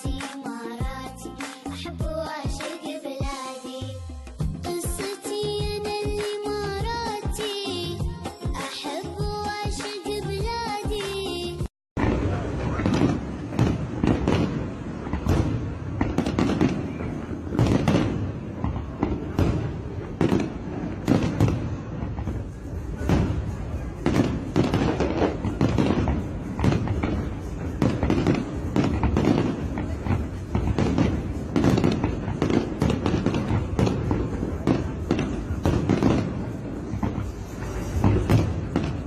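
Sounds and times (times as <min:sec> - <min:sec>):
fireworks bangs and crackles: 0:04.4 - 0:39.0.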